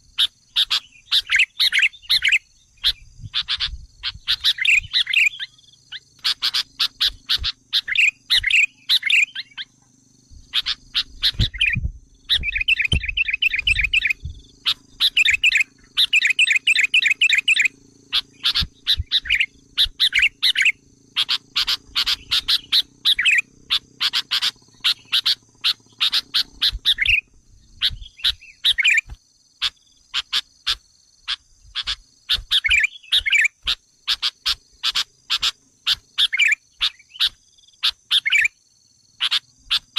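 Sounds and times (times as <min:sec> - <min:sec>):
bulbul chattering calls: 0:00.0 - 0:09.8, 0:10.4 - 0:38.6, 0:39.2 - 0:39.9.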